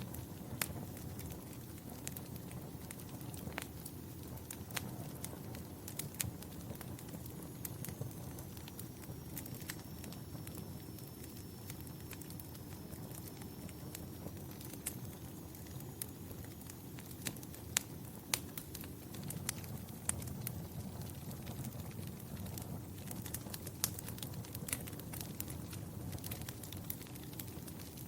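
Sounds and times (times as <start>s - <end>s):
fire pops and snaps: 0.0s - 28.0s
low rumble of burning: 0.0s - 28.0s
wood fire crackling: 0.0s - 28.0s.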